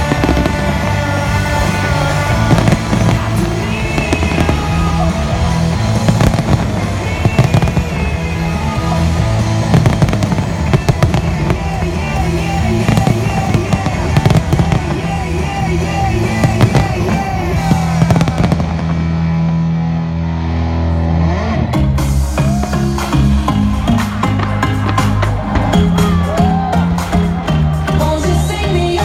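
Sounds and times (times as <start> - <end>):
fireworks banging and crackling: 0.0 - 19.5, 23.4 - 28.2
loud music with steady melody: 0.0 - 29.0.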